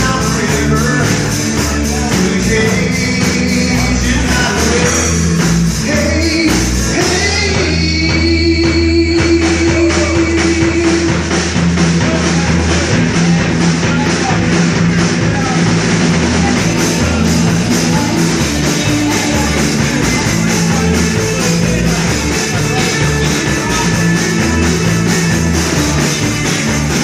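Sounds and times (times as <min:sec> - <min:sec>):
drum kit beat: 0:00.0 - 0:27.0
rock band playing: 0:00.0 - 0:27.0.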